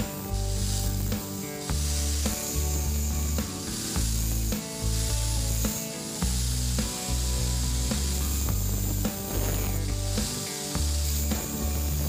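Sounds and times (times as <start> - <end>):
angle grinder grinding steel: 0.0 - 12.0
background music: 0.0 - 12.0.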